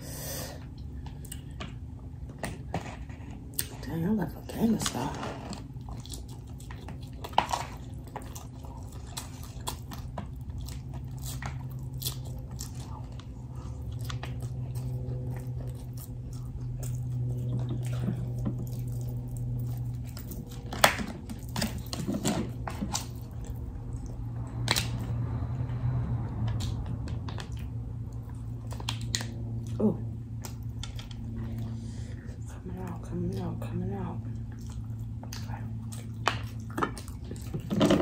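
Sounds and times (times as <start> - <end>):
low hum: 0.0 - 38.0
chewing crunchy taco shell: 0.6 - 38.0.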